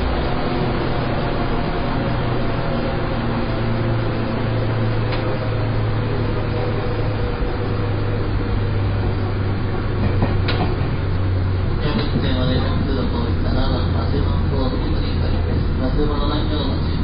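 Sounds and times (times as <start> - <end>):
low motor hum: 0.0 - 17.0
train wheels rumbling on rails: 0.0 - 17.0.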